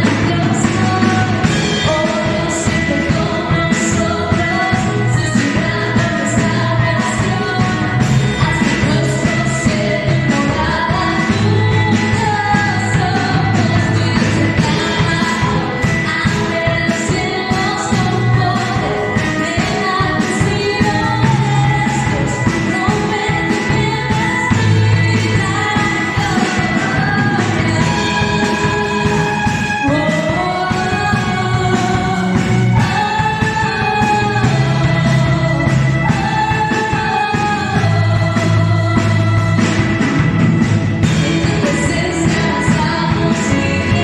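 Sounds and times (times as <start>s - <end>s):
worship song with band: 0.0s - 44.0s.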